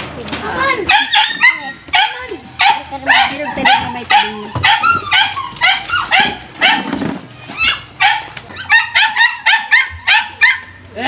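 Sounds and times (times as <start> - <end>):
dog yipping: 0.5 - 10.8.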